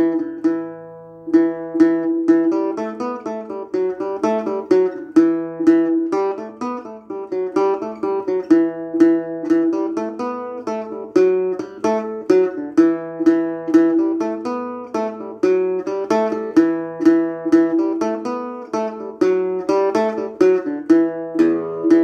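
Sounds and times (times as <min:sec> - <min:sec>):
acoustic guitar melody: 0:00.0 - 0:22.0.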